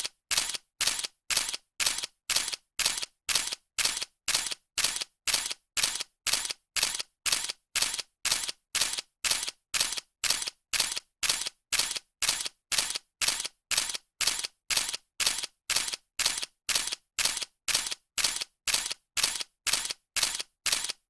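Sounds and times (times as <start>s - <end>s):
camera shutter clicking: 0.3s - 21.0s.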